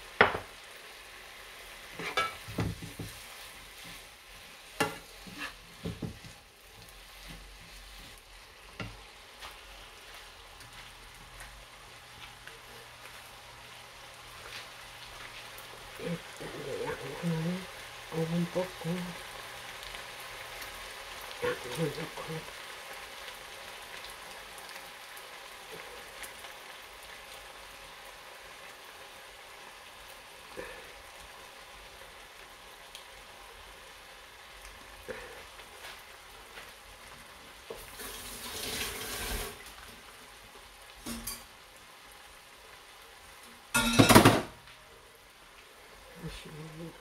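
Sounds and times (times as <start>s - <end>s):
food sizzling in a frying pan: 0.0s - 47.0s.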